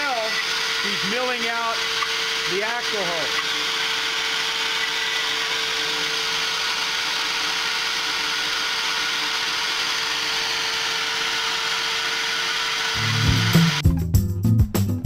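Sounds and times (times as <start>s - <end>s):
router spindle whining: 0.0s - 13.8s.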